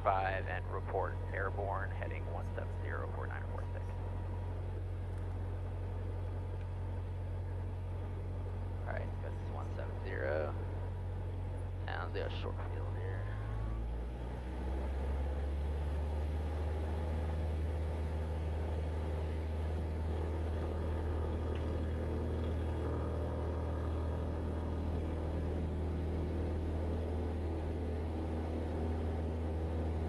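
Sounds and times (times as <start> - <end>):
aircraft engine and propeller drone: 0.0 - 30.0.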